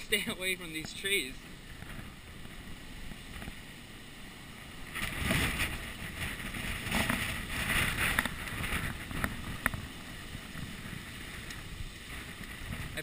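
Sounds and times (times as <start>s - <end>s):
muffled wind gusting: 0.0s - 13.0s.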